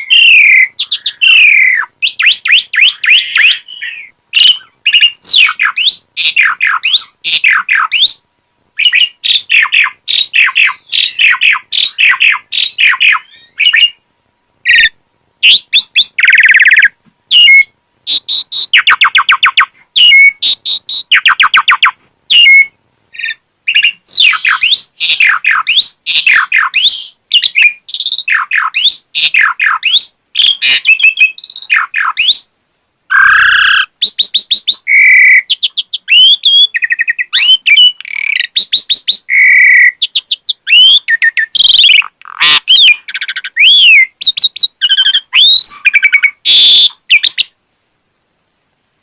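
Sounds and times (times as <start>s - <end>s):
starling singing: 0.0s - 8.2s, 8.8s - 14.0s, 14.6s - 32.5s, 33.1s - 47.6s.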